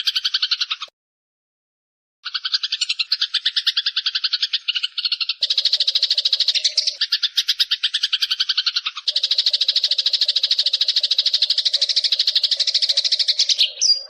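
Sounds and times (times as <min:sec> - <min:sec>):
sparrow chattering rattle: 0:00.0 - 0:00.9, 0:02.2 - 0:14.0.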